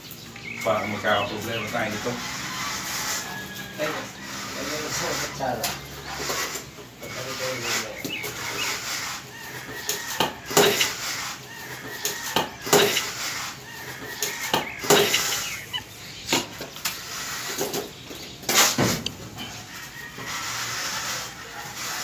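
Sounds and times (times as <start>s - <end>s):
trowel scraping mortar: 0.9s - 22.0s.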